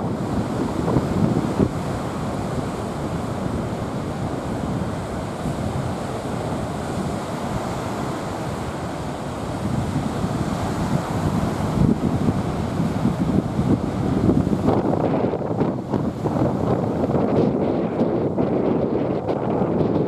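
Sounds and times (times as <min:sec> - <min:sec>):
waves breaking on a beach: 0:00.0 - 0:20.0
wind buffeting microphone: 0:00.0 - 0:20.0.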